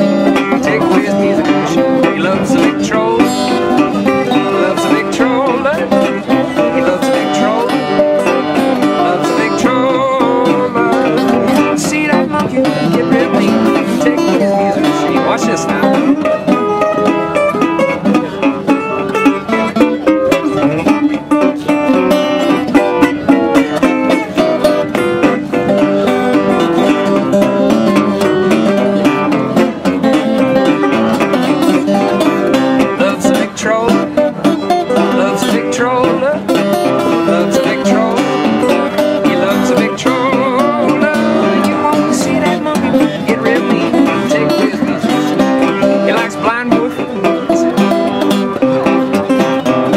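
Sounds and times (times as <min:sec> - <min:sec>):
fingerpicked resonator guitar: 0:00.0 - 0:49.9.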